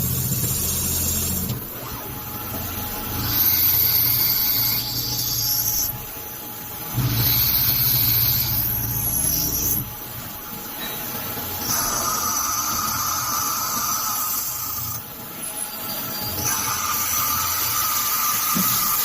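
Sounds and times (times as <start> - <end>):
high-pitched motor whine: 0.0 - 6.1, 6.8 - 10.1, 11.5 - 19.0.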